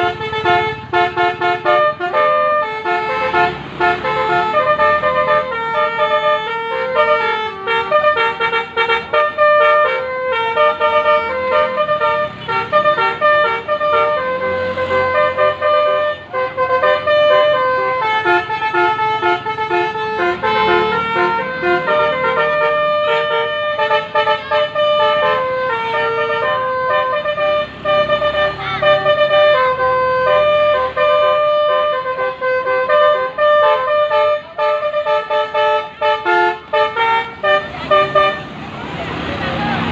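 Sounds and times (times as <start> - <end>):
musical bus horn playing tune: 0.0 - 38.6.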